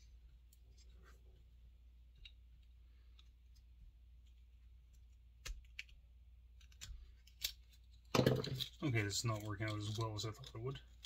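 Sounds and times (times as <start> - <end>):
small parts clicking and tapping: 2.0 - 11.0.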